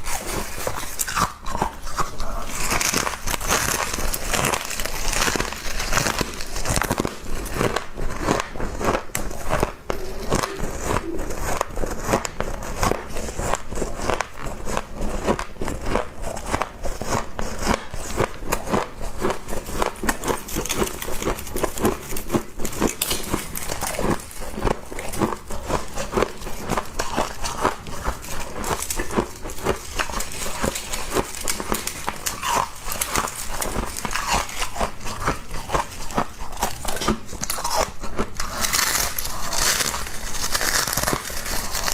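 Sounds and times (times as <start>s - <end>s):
crunchy frost being chewed: 0.0s - 41.9s.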